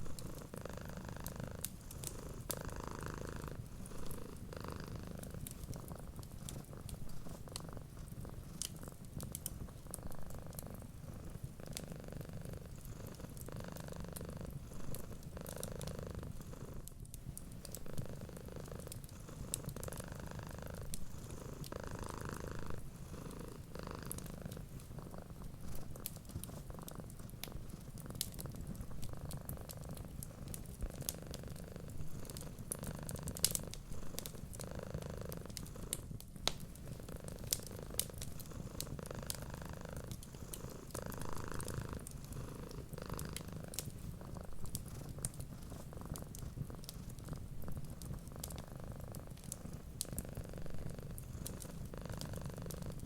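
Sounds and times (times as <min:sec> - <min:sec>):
cat purring: 0:00.0 - 0:53.0
wood fire crackling: 0:03.4 - 0:14.3, 0:14.9 - 0:53.0.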